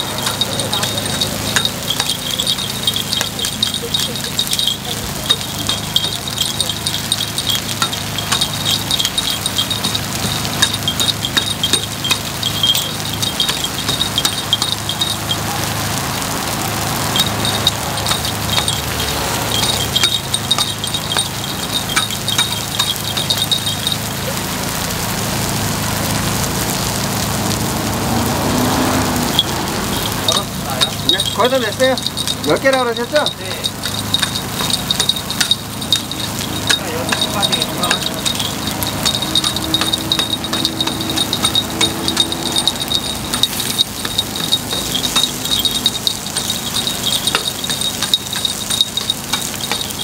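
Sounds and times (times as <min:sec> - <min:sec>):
metal picks clicking on pan: 0:00.0 - 0:24.4, 0:28.4 - 0:50.0
batter sizzling: 0:00.0 - 0:50.0.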